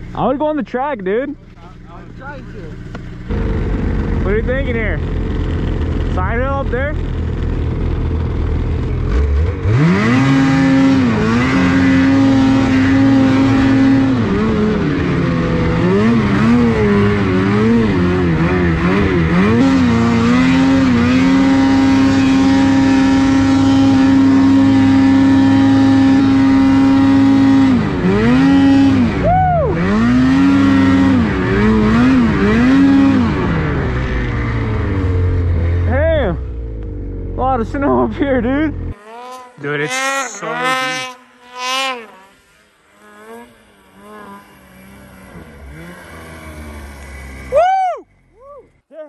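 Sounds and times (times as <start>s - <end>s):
snowmobile engine revving: 0.0s - 49.0s.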